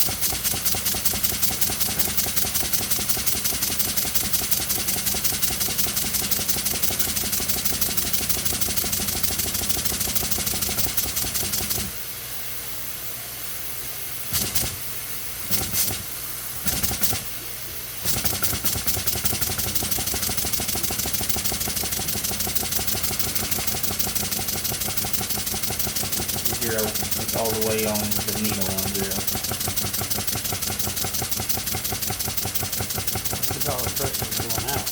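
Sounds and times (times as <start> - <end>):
steam engine chuffing: 0.0 - 11.9, 14.3 - 14.9, 15.5 - 17.3, 18.0 - 34.9.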